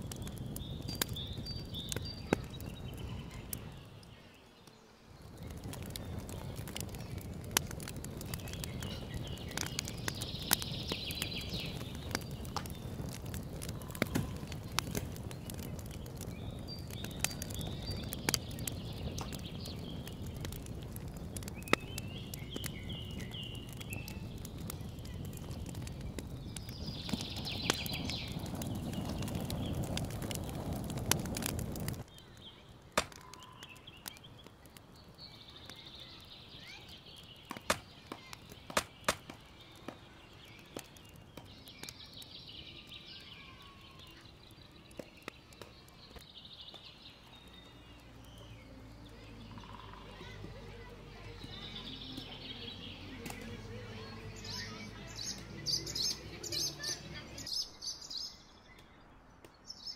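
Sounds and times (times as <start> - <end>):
wood fire crackling and popping: 0.0 - 57.6
birds chirping: 0.0 - 59.9.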